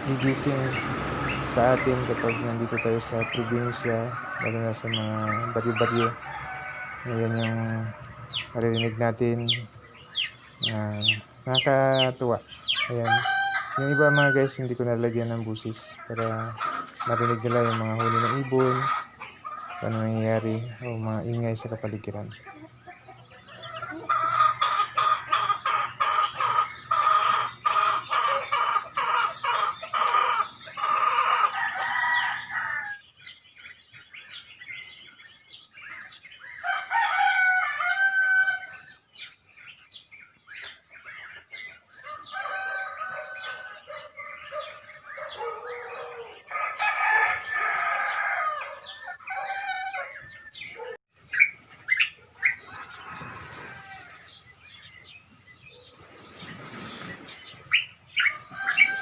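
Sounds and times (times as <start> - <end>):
roosters crowing: 0.0 - 33.1, 35.8 - 39.3, 40.5 - 59.0
small birds chirping: 0.0 - 59.0.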